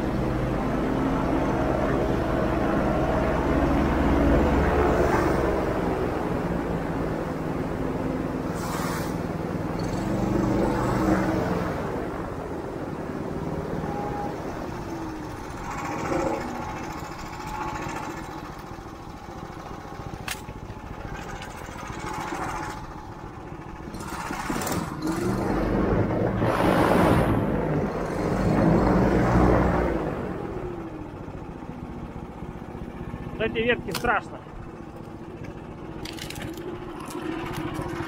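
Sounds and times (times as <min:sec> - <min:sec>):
airboat engine and propeller: 0:00.0 - 0:38.0.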